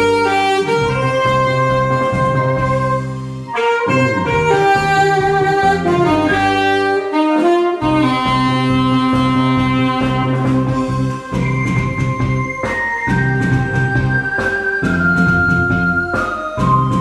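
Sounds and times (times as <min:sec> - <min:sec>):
backing accompaniment: 0:00.0 - 0:17.0
saxophone melody: 0:00.0 - 0:17.0.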